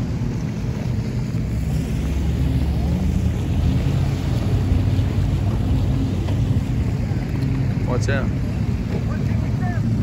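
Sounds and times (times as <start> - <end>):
outboard motors rumbling: 0.0 - 10.0.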